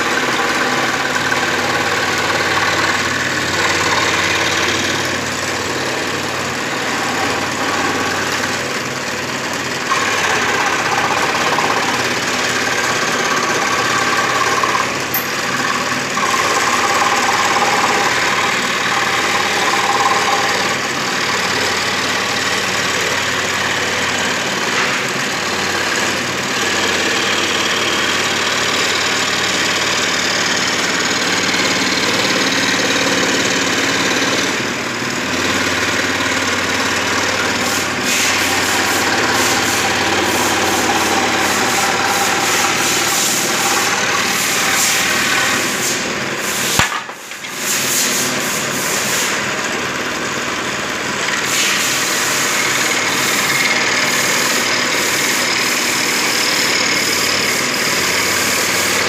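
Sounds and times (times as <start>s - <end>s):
woodworking machine cutting wood: 0.0s - 59.0s.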